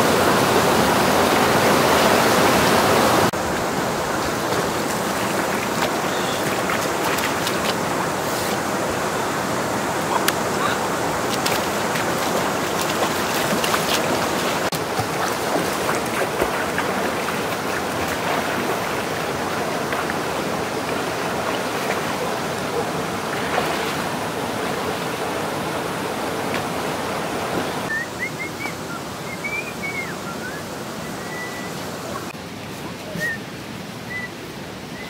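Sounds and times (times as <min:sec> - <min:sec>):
river water splashing: 0:00.0 - 0:35.0.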